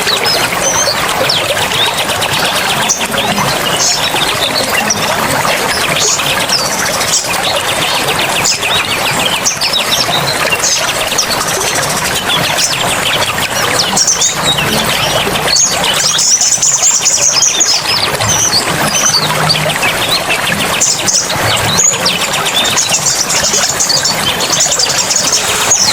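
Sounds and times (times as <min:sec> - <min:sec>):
bird trill: 0:00.0 - 0:25.9
songbirds chirping: 0:00.0 - 0:25.9.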